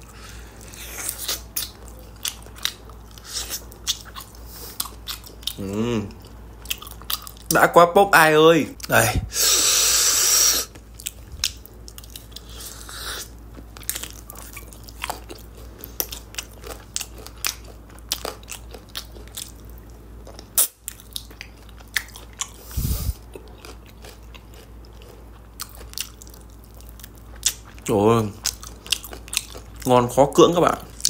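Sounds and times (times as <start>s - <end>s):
man chewing food: 0.0s - 7.5s, 8.8s - 30.1s.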